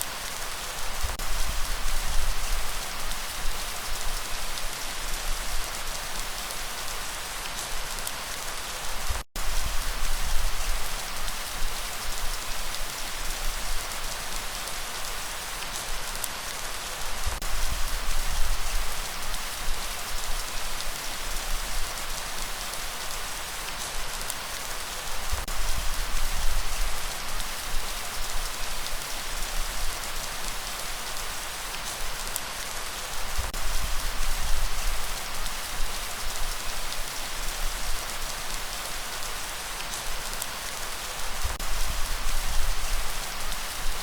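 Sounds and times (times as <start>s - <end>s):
rain hiss: 0.0s - 44.0s.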